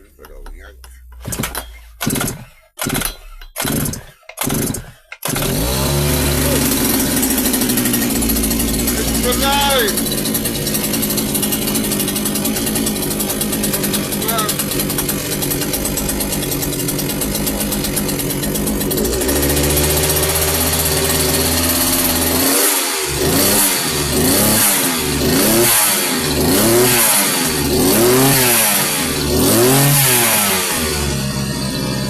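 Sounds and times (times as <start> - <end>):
strimmer engine running: 0.0 - 32.0.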